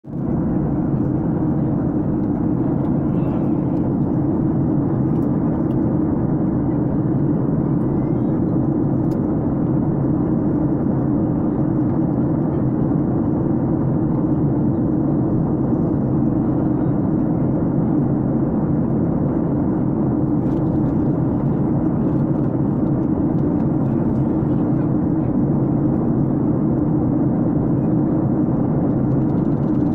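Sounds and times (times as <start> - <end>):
airliner cabin engine noise: 0.0 - 29.9.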